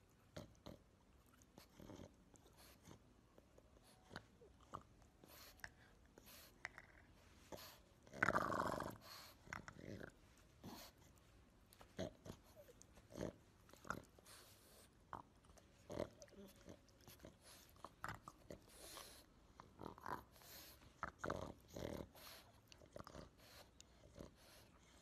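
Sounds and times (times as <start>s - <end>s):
dog snorting and grunting: 0.3s - 0.9s, 1.5s - 3.0s, 3.8s - 11.1s, 11.8s - 25.0s.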